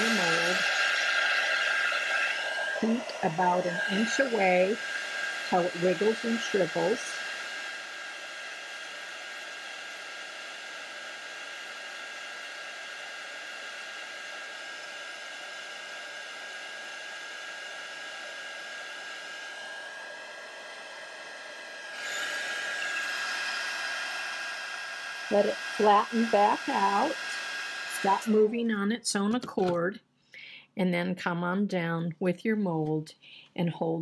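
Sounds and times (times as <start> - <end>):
heat gun fan whirring: 0.0 - 28.8.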